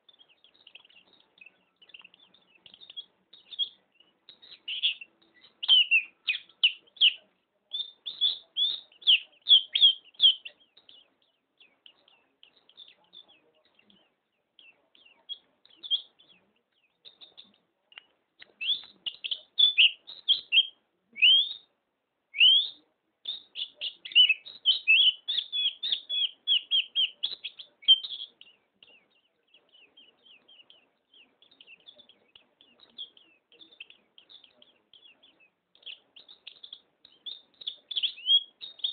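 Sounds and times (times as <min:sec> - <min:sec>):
bird singing high trills: 0:00.0 - 0:13.3, 0:18.6 - 0:21.7, 0:22.4 - 0:38.9
soft bird twitters: 0:00.0 - 0:38.9.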